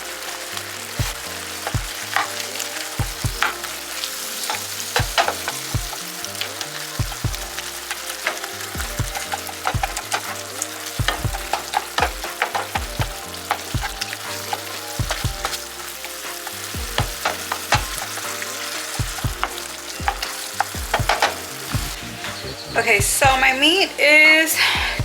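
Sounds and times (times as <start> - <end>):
meat sizzling in a pan: 0.0 - 22.7
utensil scraping and knocking pan: 1.0 - 6.1, 7.0 - 22.0.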